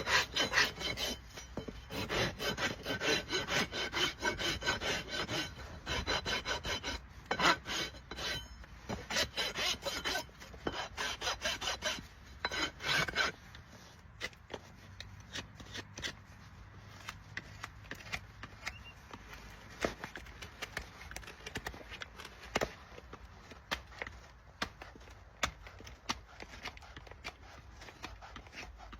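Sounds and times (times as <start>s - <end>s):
rasp filing hoof: 0.0s - 28.9s.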